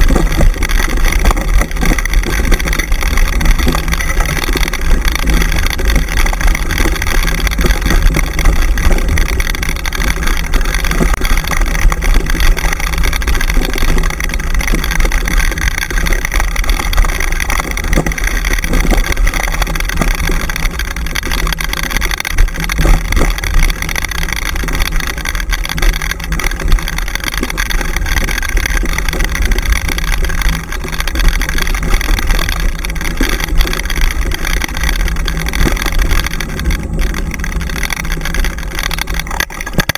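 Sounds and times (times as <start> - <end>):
wheels rumbling on dirt trail: 0.0 - 39.9.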